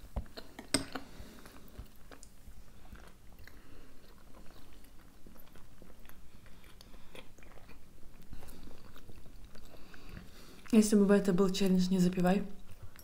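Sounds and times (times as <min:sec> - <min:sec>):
chewing eggs close-up: 0:00.0 - 0:11.0.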